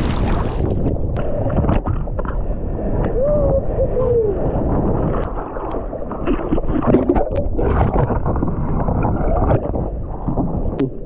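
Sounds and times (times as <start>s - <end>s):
seawater splashing and churning: 0.0s - 10.6s.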